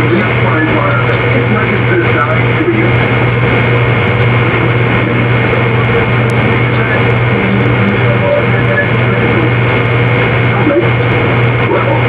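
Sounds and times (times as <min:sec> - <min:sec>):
low hum: 0:00.0 - 0:12.0
scratchy static: 0:00.0 - 0:12.0.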